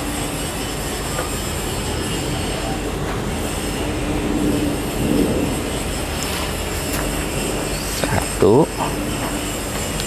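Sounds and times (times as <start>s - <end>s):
mechanical rumble and hiss: 0.0s - 10.0s.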